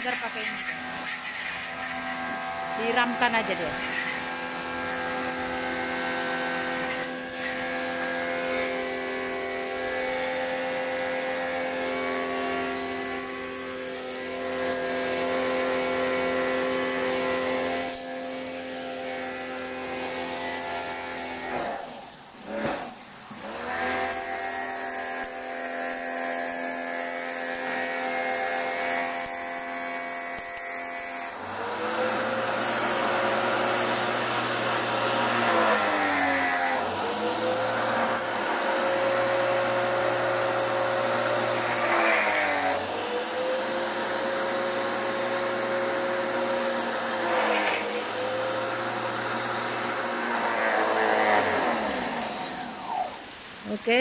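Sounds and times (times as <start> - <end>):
pressure washer motor whine: 0.0 - 54.0.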